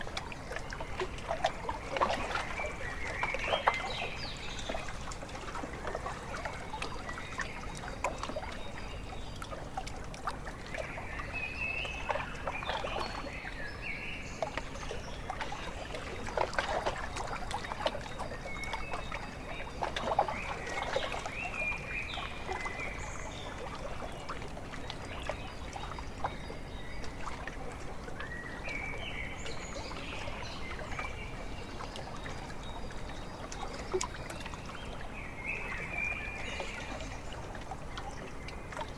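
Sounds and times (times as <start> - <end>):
lake waves lapping at shore: 0.0 - 38.9.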